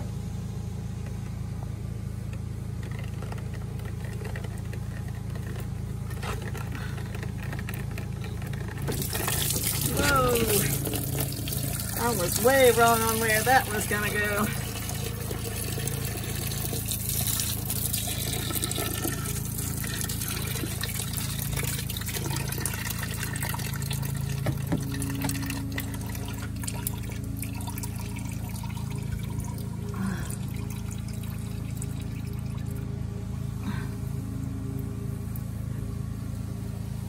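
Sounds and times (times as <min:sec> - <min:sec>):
steady low hum: 0:00.0 - 0:37.0
washer fluid draining: 0:02.3 - 0:33.0.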